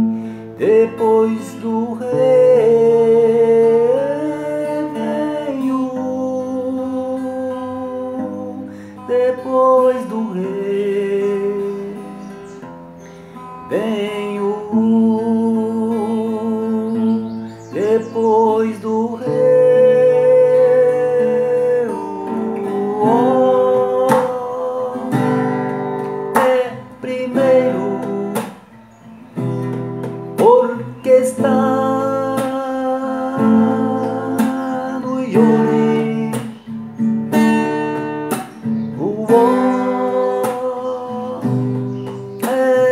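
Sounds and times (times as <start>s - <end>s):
person singing with vibrato: 0.0s - 12.7s, 13.3s - 28.8s, 30.3s - 42.9s
acoustic guitar strumming: 0.0s - 42.9s.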